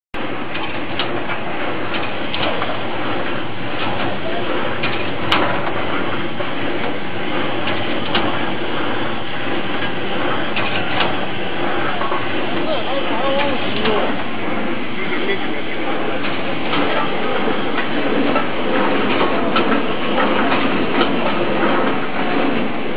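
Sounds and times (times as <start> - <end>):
machine clattering: 0.2 - 22.9
sharp clicks and knocks: 0.5 - 12.7, 13.3 - 14.5, 16.1 - 22.7.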